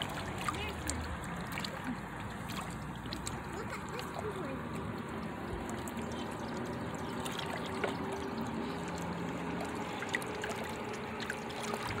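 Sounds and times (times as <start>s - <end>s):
lake water lapping: 0.0s - 12.0s.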